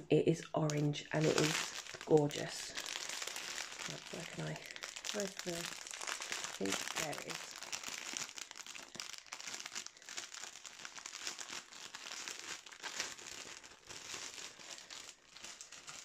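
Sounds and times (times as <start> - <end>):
plastic bags crinkling: 0.6 - 16.0.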